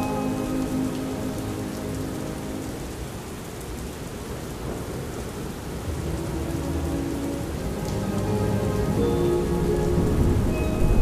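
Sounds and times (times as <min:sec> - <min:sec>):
faint soft music: 0:00.0 - 0:03.9, 0:05.8 - 0:11.0
heavy rain: 0:00.0 - 0:11.0.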